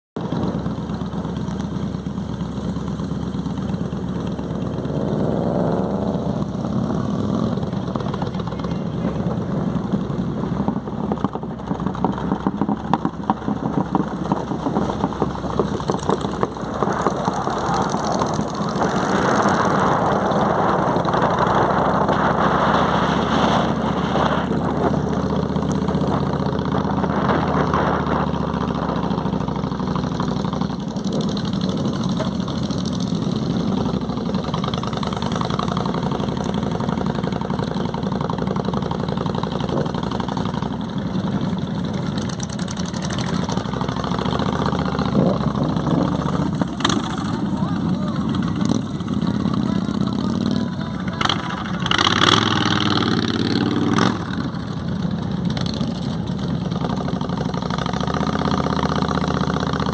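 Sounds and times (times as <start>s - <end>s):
motorcycle engines running: 0.2s - 59.9s.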